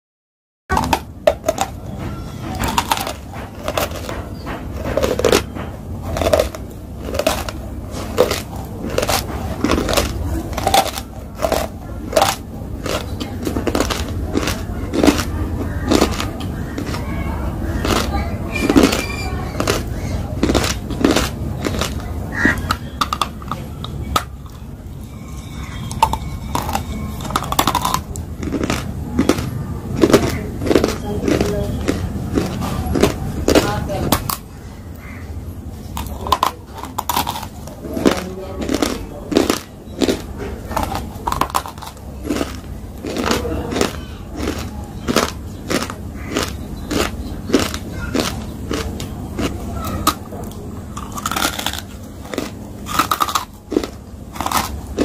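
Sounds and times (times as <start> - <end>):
ice cubes crunched between teeth: 0.7 - 1.8, 2.5 - 5.5, 6.1 - 17.0, 17.8 - 24.7, 25.9 - 34.5, 35.9 - 55.0.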